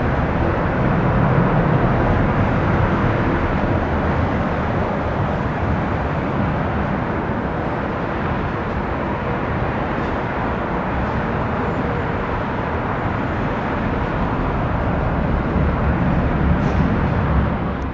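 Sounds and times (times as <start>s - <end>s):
airliner jet engines rumbling: 0.0s - 17.9s.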